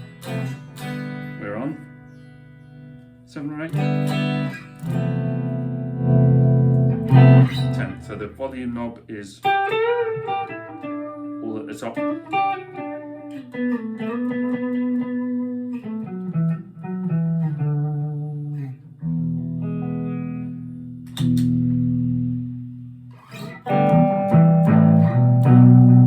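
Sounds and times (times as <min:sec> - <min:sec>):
electric guitar playing: 0:00.0 - 0:26.0.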